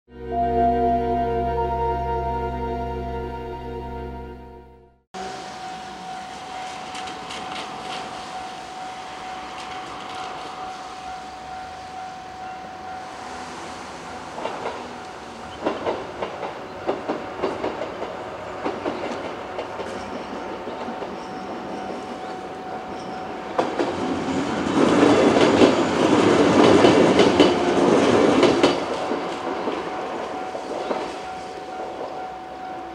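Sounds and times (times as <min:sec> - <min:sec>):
train wheels clacking on rails: 0:05.2 - 0:12.4, 0:13.1 - 0:32.9.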